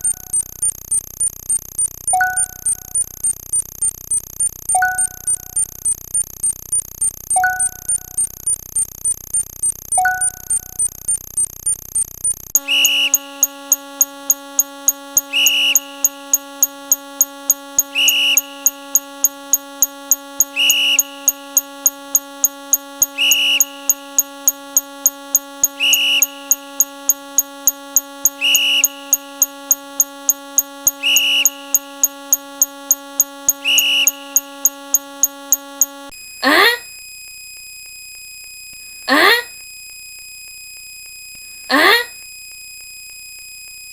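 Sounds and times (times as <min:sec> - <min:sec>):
electronic beep: 0:00.0 - 0:36.1
rapid high ticks: 0:00.0 - 0:36.2
electronic buzzing drone: 0:00.0 - 0:37.0.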